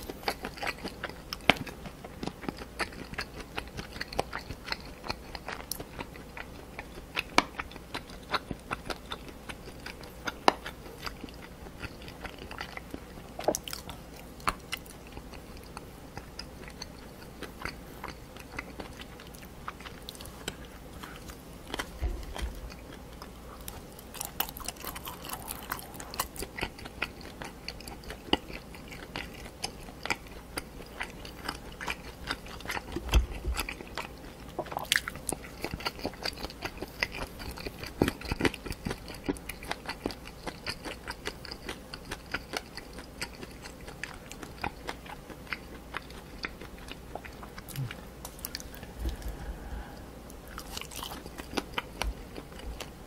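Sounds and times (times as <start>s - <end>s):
chewing crunchy cartilage: 0.0s - 53.0s.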